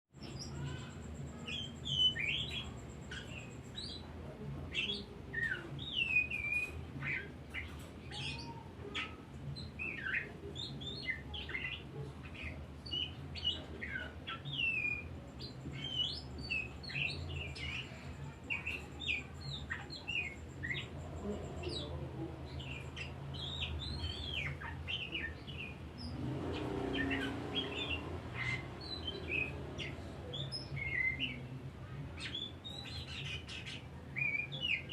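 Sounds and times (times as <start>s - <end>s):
bird singing varied song: 0.1s - 34.9s.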